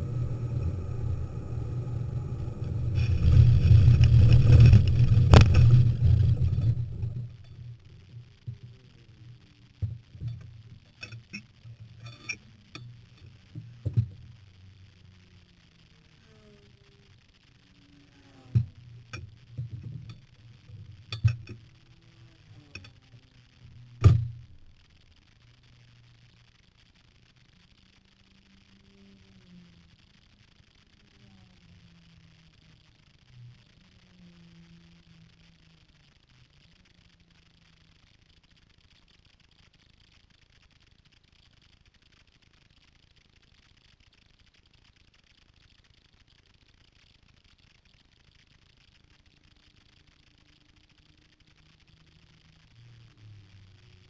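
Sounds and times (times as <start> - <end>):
faint low rumble: 0.0 - 54.0
low steady hum: 0.0 - 54.0
steady hiss: 0.0 - 54.0.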